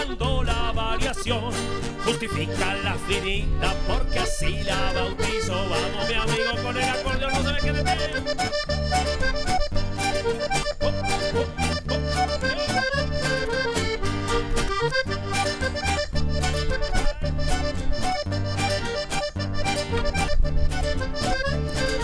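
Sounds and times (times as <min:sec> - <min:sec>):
accordion folk melody: 0:00.0 - 0:22.0
repeating bass beat: 0:00.0 - 0:22.0.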